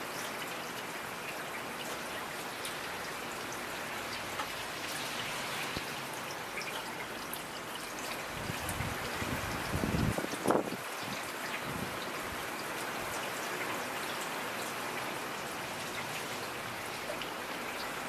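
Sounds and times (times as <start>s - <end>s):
raindrops clicking close by: 0.0s - 18.0s
steady rain falling: 0.0s - 18.0s.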